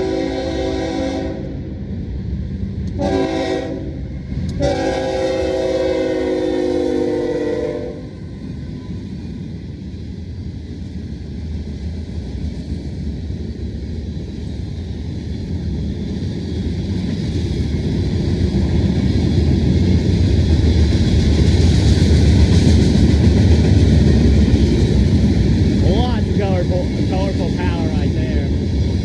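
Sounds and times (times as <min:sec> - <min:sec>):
diesel locomotive engine rumble: 0:00.0 - 0:29.0.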